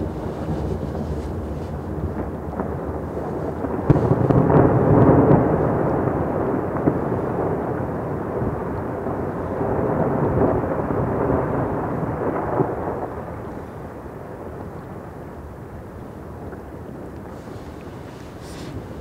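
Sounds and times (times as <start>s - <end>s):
avalanche rumbling: 0.0s - 19.0s.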